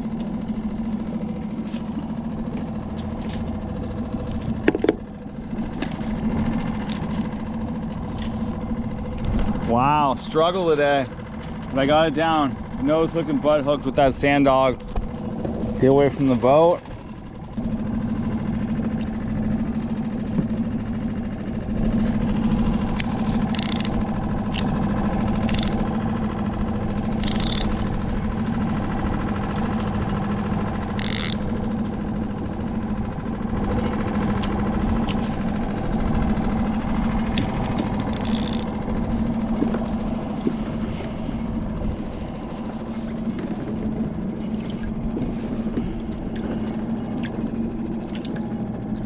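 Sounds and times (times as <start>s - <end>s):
small boat motor humming: 0.0s - 49.0s.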